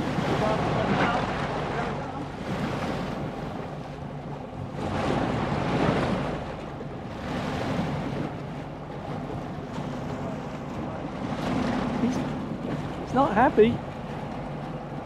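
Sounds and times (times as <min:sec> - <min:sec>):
low engine hum: 0:00.0 - 0:15.0
sea wash around boat: 0:00.0 - 0:15.0
wind buffeting microphone: 0:00.0 - 0:15.0.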